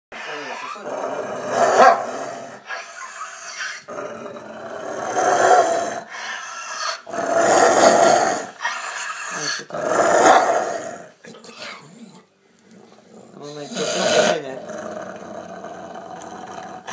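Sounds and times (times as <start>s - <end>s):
dog growling: 0.1s - 16.9s.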